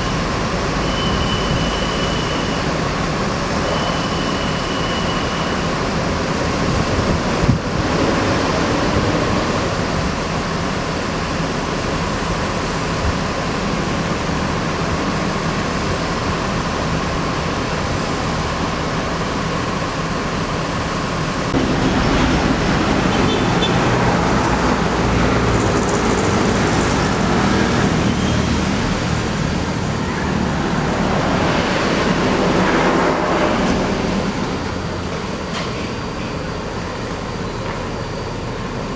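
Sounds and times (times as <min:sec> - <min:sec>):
diesel engines rumbling: 0:00.0 - 0:38.9.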